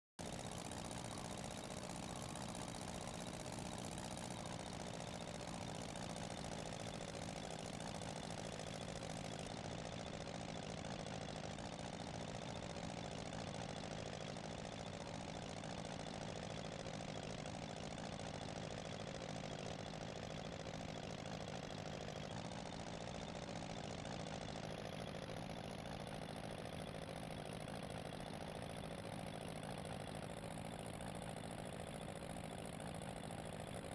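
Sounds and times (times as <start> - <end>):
engine running steadily: 0.2 - 33.9.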